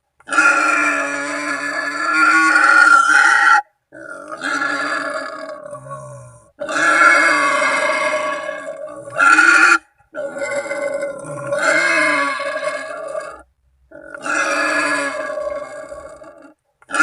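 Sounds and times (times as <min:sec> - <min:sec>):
wild boar screaming: 0:00.3 - 0:17.0.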